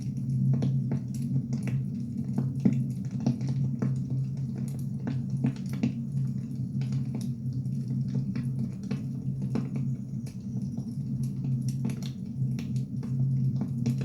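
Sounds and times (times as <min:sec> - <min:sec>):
low fire rumble: 0:00.0 - 0:14.0.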